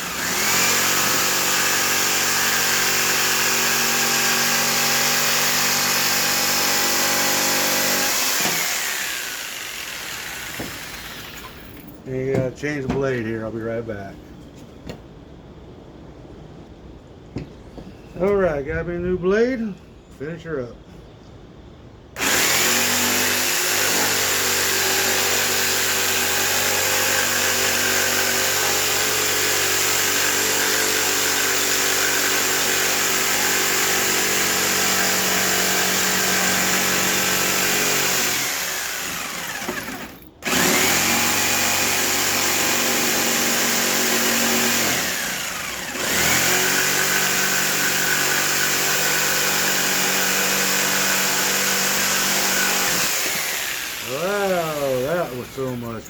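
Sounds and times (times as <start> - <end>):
electric power saw running: 0.0 - 11.8, 22.2 - 56.0.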